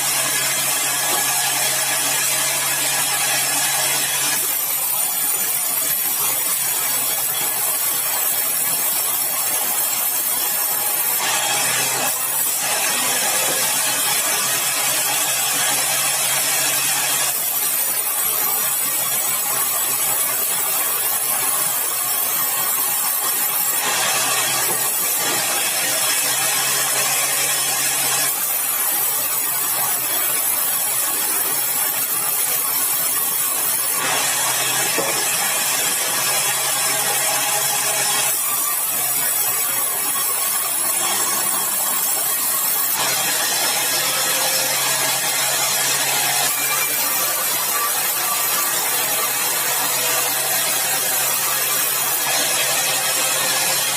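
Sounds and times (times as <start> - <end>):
sawmill saw cutting log: 0.0 - 53.9.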